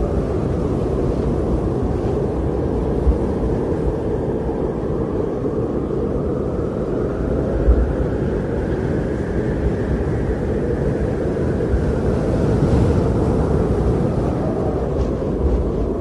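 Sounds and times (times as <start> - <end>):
blizzard wind howling: 0.0 - 16.0
low wind gusts buffeting: 0.0 - 16.0.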